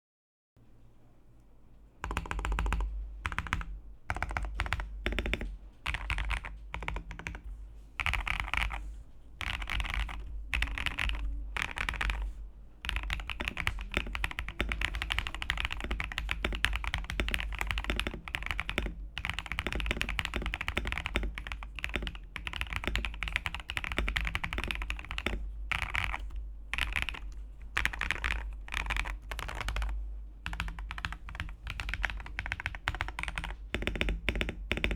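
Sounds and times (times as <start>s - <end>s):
faint low hum: 0.6s - 34.9s
mechanical keyboard typing: 2.0s - 8.8s, 9.4s - 34.9s.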